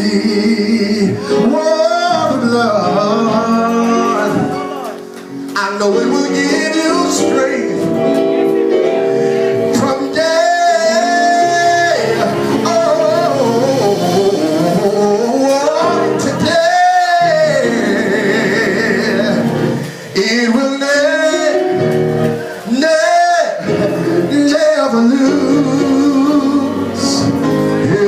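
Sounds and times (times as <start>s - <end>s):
instrumental accompaniment: 0.0s - 28.0s
person singing gospel: 0.0s - 28.0s.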